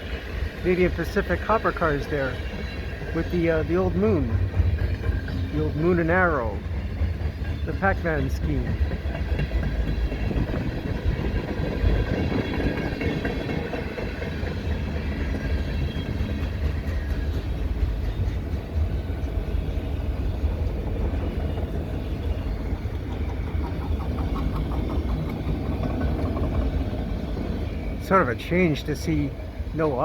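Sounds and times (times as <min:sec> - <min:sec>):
freight cars rumbling on rails: 0:00.0 - 0:30.0.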